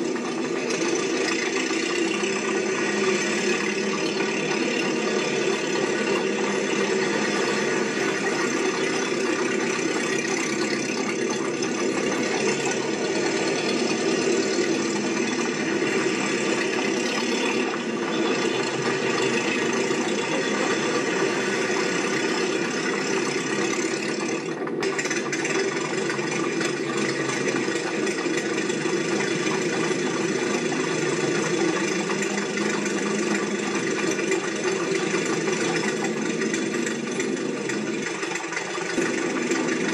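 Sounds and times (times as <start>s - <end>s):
steady mechanical running: 0.0s - 39.9s.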